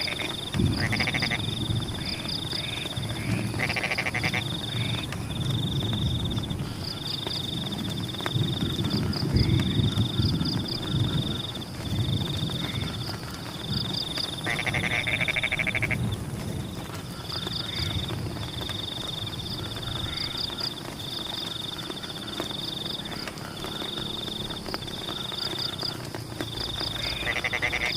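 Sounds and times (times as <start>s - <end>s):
frogs trilling: 0.0s - 27.9s
loud pulsed frog croaking: 0.0s - 27.9s
steady rain: 0.0s - 27.9s.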